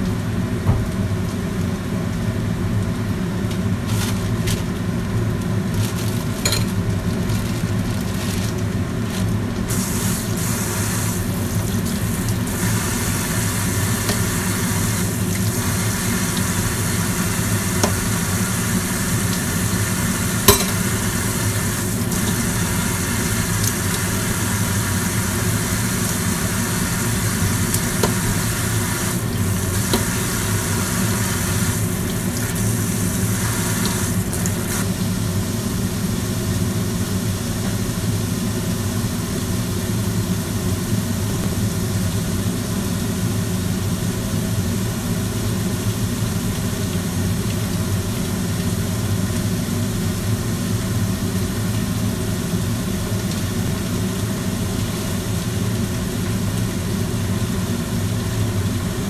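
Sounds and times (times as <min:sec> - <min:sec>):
range hood fan humming: 0:00.0 - 0:59.0
food sizzling in a wok: 0:08.8 - 0:59.0.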